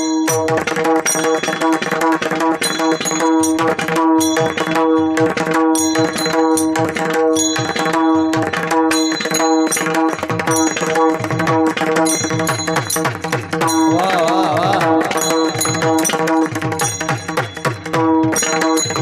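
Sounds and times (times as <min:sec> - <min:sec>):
high ringing strikes: 0:00.0 - 0:01.8, 0:02.6 - 0:19.0.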